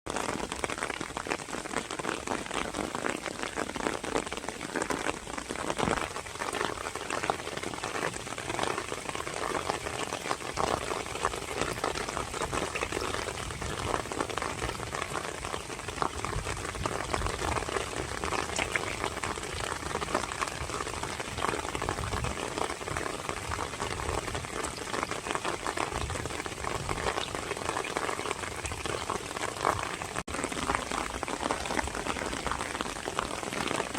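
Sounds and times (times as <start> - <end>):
rain on a hard surface: 0.1 - 33.9.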